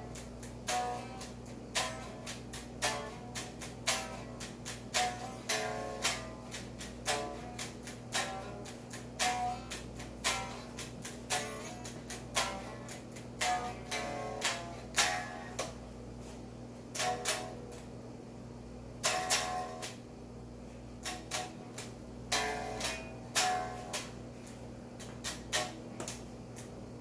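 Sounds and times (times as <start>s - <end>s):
electric guitar picking: 0.0s - 18.0s, 19.0s - 20.1s, 21.0s - 26.7s.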